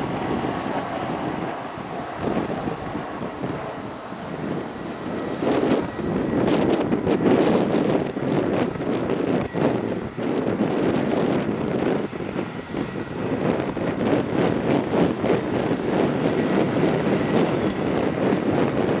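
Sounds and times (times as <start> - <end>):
light aircraft landing: 0.0 - 19.0
wind buffeting microphone: 0.0 - 19.0.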